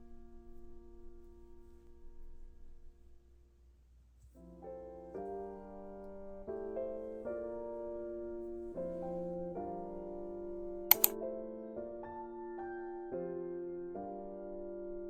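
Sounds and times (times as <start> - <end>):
soft piano music: 0.0 - 3.4, 4.3 - 15.0.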